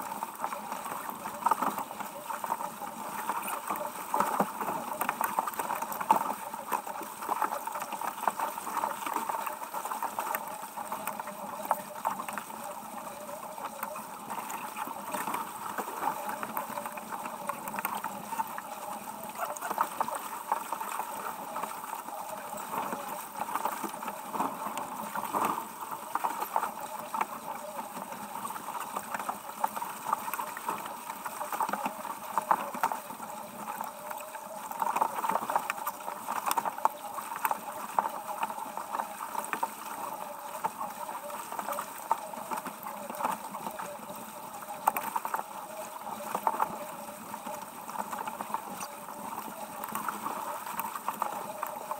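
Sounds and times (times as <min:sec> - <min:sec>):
water splashing along hull: 0:00.0 - 0:51.9.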